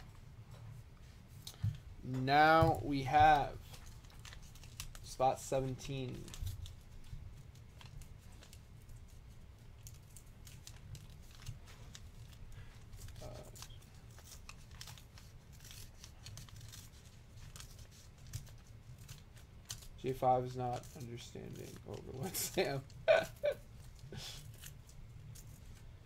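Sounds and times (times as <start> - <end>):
wrapper crinkling and tearing: 3.4 - 26.0.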